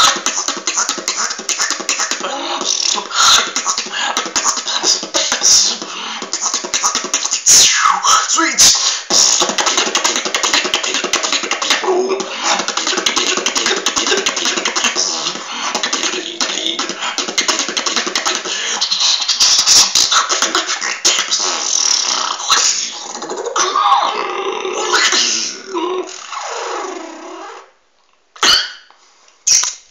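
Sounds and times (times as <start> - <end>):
person beatboxing: 0.0 - 27.7.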